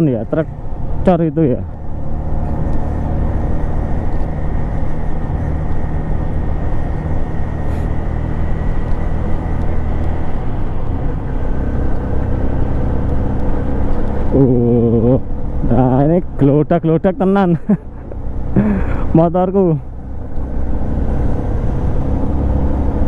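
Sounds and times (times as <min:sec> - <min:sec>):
motorcycle engine cruising: 0:00.0 - 0:23.0
road and wind noise: 0:00.0 - 0:23.0.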